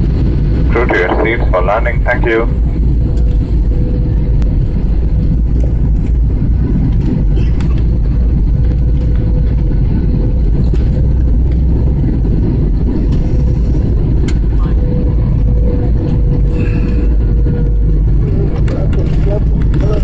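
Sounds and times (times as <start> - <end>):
aircraft cabin engine roar: 0.0 - 20.0.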